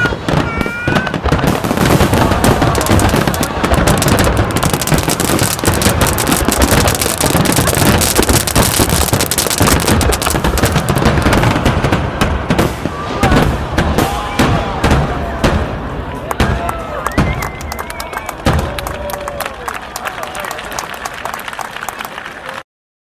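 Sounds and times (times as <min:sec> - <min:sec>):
fireworks crackling and banging: 0:00.0 - 0:22.5.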